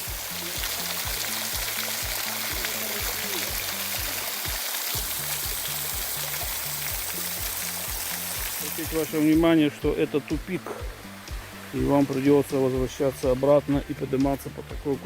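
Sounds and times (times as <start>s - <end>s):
waterfall rushing: 0.0s - 14.9s
background music with beat and bass: 0.0s - 15.0s.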